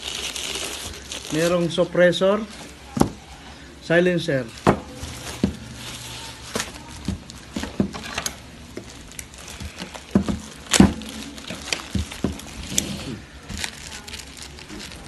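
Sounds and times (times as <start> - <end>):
plastic and paper packaging rustling: 0.0 - 15.0.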